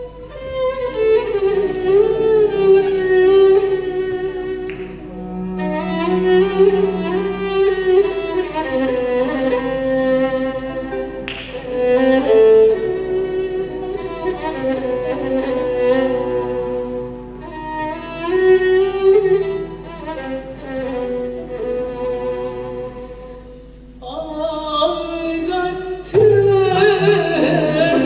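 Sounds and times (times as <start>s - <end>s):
bowed strings ensemble: 0.0s - 28.0s.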